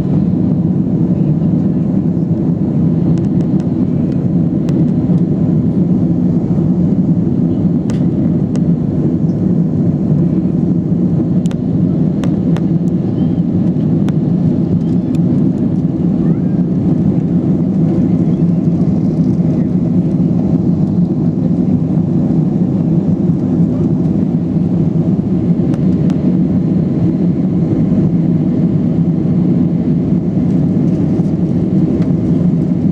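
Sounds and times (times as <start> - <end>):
jet engine drone in cabin: 0.0 - 32.9.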